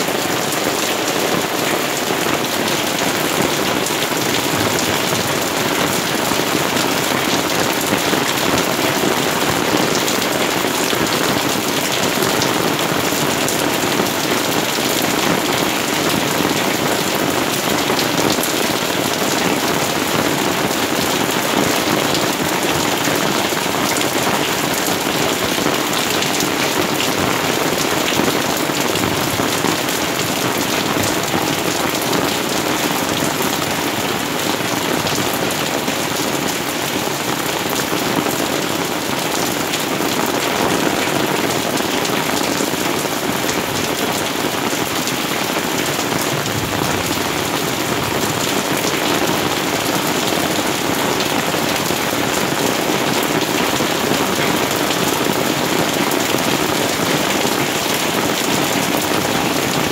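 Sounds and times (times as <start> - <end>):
rain on foliage and paving: 0.0 - 59.9.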